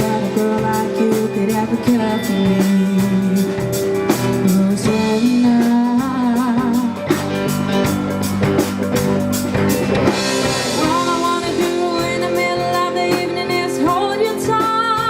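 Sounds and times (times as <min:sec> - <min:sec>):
person singing: 0:00.0 - 0:07.9, 0:10.5 - 0:15.0
drum beat: 0:00.0 - 0:15.0
electric guitar: 0:00.0 - 0:15.0.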